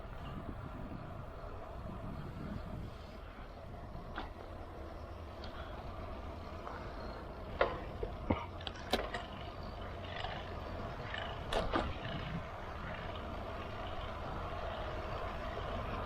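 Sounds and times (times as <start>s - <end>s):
rumble of wind and tyres: 0.0s - 16.0s.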